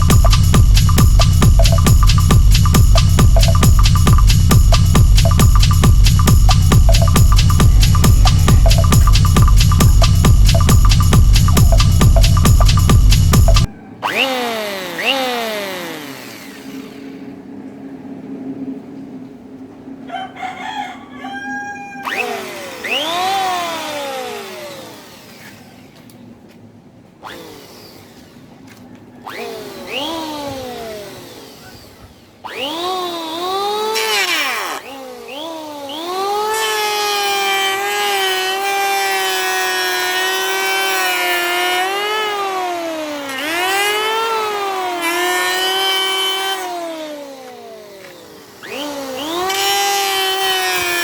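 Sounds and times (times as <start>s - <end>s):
electric hand planer whine: 0.0s - 17.5s, 22.0s - 26.1s, 27.2s - 51.0s.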